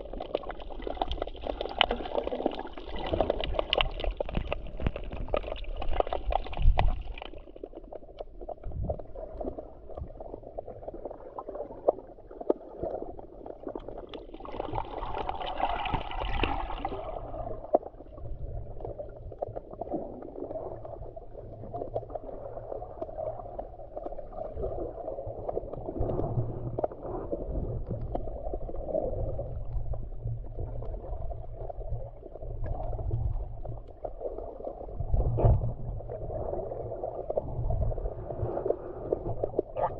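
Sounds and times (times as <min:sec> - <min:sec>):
sea water gurgling and sloshing: 0:00.0 - 0:39.9.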